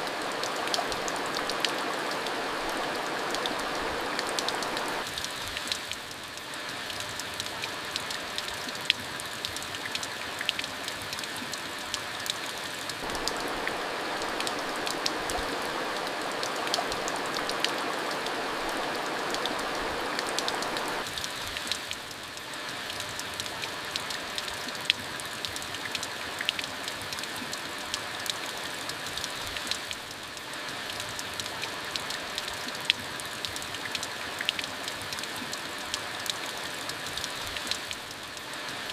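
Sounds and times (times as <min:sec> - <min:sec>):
raindrops ticking on surface: 0:00.0 - 0:38.9
steady rain hiss: 0:00.0 - 0:38.9.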